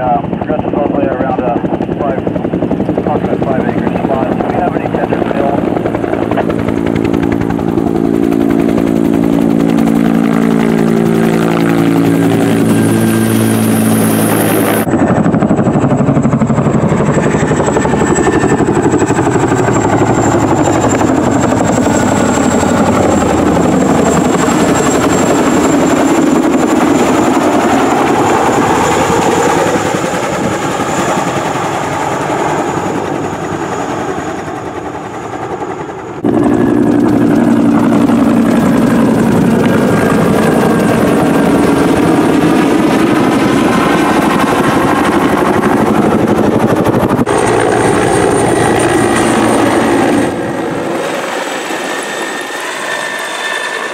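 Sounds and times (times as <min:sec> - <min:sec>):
helicopter rotor passing close: 0:00.0 - 0:53.9
tandem-rotor helicopter flying overhead: 0:00.0 - 0:53.9.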